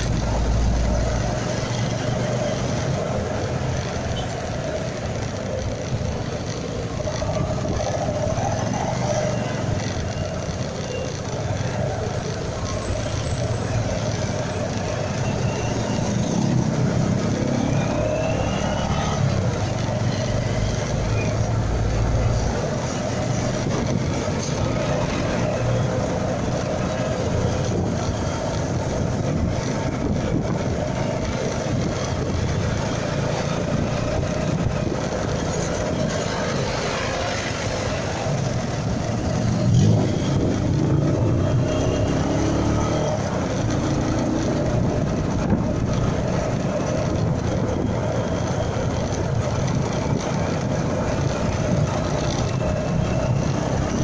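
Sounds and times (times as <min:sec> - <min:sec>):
motorcycle engine: 0:00.0 - 0:54.0
road traffic noise: 0:00.0 - 0:54.0.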